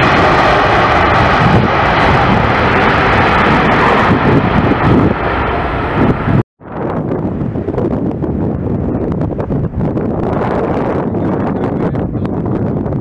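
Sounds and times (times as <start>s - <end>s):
jet engine roar: 0.0s - 13.0s
wind buffeting microphone: 0.0s - 13.0s.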